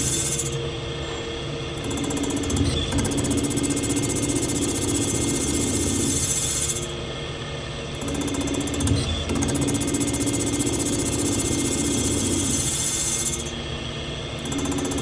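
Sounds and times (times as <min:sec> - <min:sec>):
machine humming with high hiss: 0:00.0 - 0:15.0.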